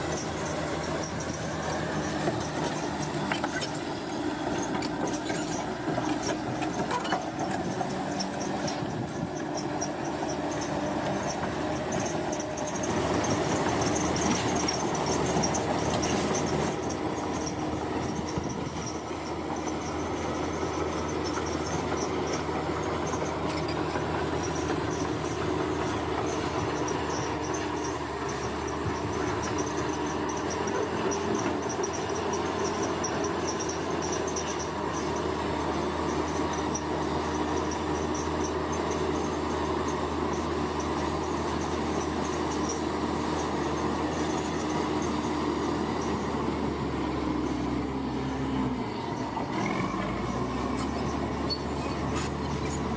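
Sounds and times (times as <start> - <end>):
bulldozer diesel engine: 0.0 - 52.9.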